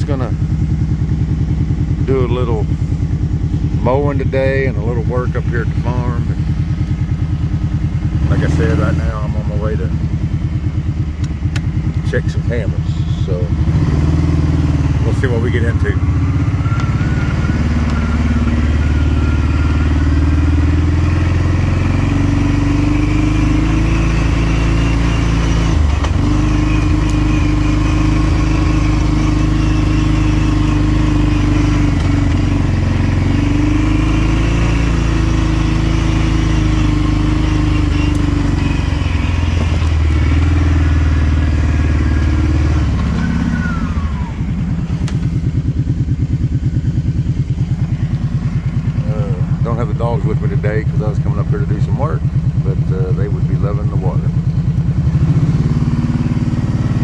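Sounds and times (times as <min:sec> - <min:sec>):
atv engine idling: 0:00.0 - 0:57.0
atv engine revving: 0:00.0 - 0:57.0.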